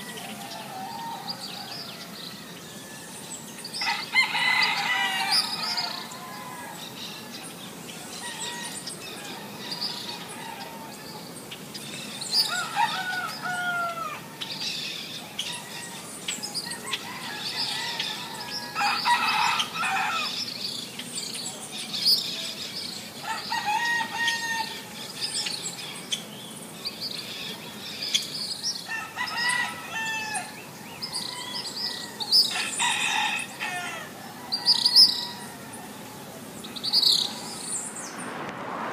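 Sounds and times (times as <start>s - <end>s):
small birds chirping: 0.0s - 38.5s
roosters crowing: 0.0s - 38.9s.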